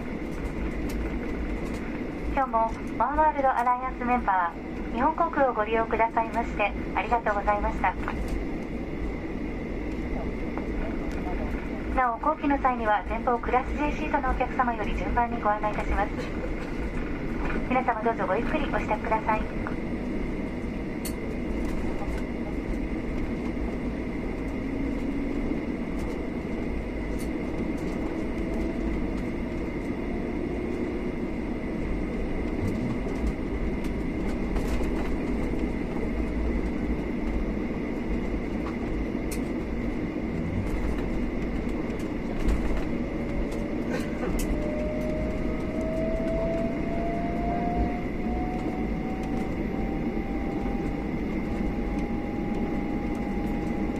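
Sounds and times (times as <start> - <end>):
constant high whine: 0.0 - 53.9
jet engines idling rumble: 0.0 - 53.9.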